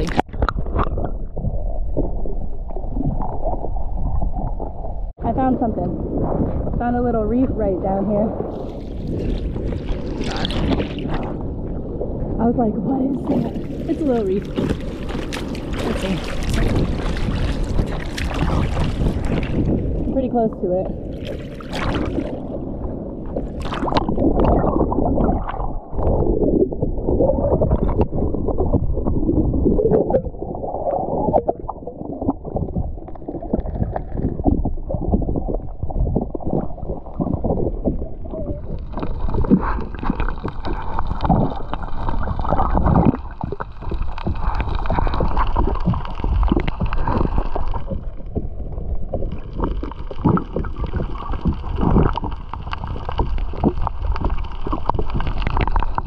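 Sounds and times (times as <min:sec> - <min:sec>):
muffled underwater sloshing: 0:00.0 - 0:56.0.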